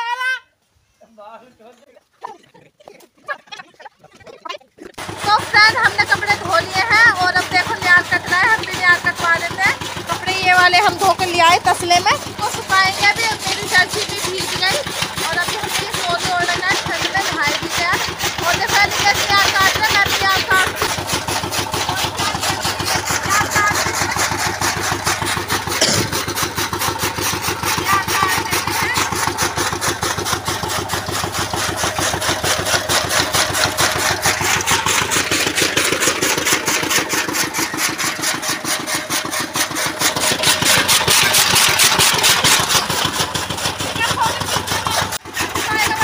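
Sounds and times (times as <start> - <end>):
chaff cutter chopping fodder: 4.9 - 46.0.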